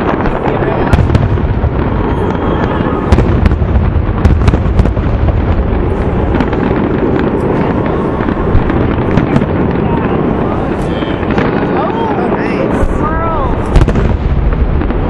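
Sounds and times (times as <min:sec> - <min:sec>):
fireworks booming: 0:00.0 - 0:15.0
fireworks sharp cracks: 0:00.0 - 0:15.0.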